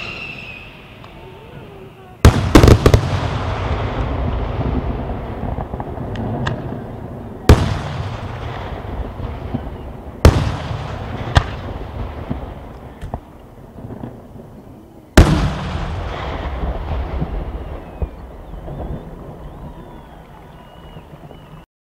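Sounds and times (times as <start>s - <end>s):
fireworks bangs: 0.0s - 21.6s
low rumbling echo: 0.7s - 21.6s
light firework cracks: 2.2s - 14.2s, 15.2s - 21.4s.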